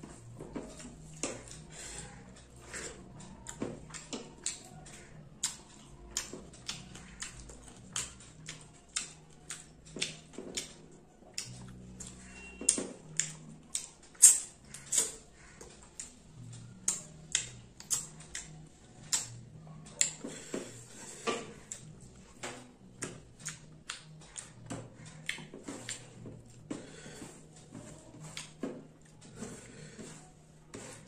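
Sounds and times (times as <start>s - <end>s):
person chewing with wet smacks: 0.0s - 21.0s, 21.6s - 31.0s.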